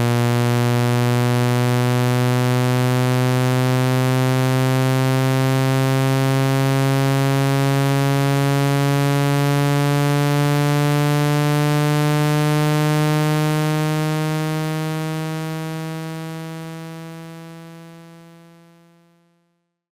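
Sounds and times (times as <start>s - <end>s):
low buzzy electronic tone: 0.0s - 19.4s.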